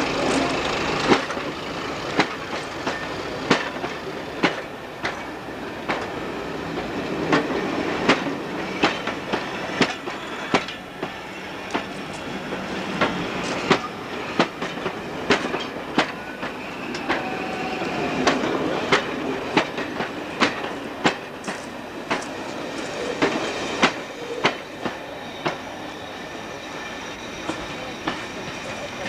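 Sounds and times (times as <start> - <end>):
train rumble: 0.0 - 29.0
train wheels clicking over joints: 0.0 - 29.0.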